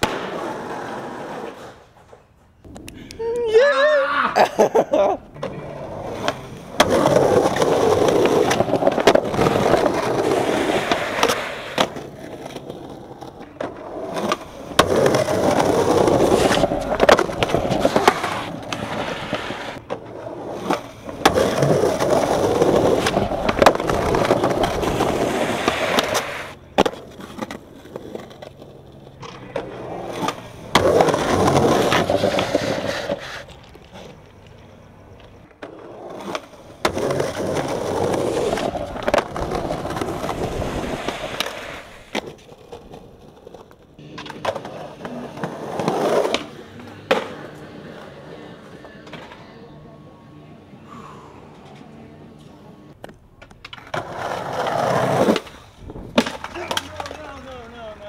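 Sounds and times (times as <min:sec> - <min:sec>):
skateboard wheels rolling on concrete: 0:00.0 - 0:58.0
skateboard clacking on ground: 0:05.3 - 0:49.8, 0:51.6 - 0:58.0.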